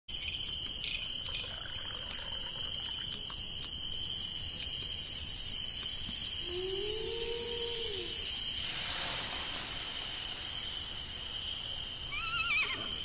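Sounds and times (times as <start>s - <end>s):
faint hiss: 0.1s - 13.0s
high insect trill: 0.1s - 13.0s.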